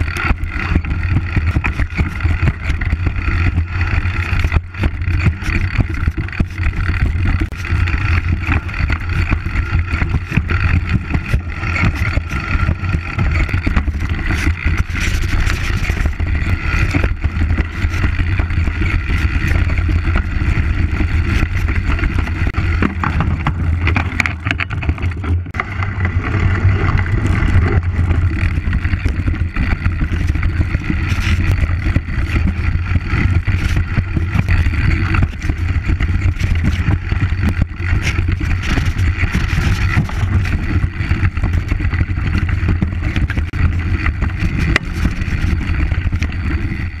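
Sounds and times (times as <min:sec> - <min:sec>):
bike knocking and rattling: 0:00.0 - 0:47.0
bike tyres rumbling on trail: 0:00.0 - 0:47.0
wind on microphone: 0:00.0 - 0:47.0.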